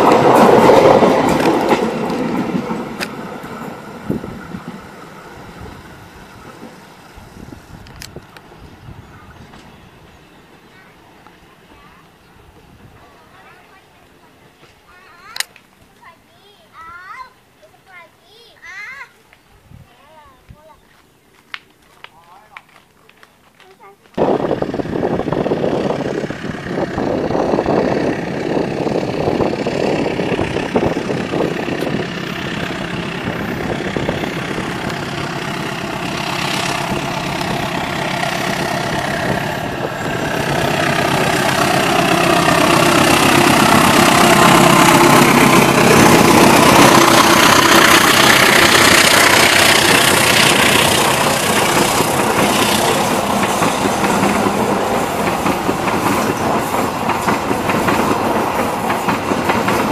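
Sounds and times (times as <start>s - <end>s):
diesel locomotive engine hum: 0.0s - 59.9s
train coaches rolling by: 0.0s - 59.9s.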